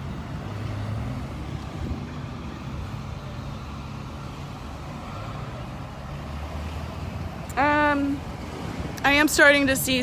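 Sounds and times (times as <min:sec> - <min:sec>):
cars and trucks driving past: 0:00.0 - 0:10.0.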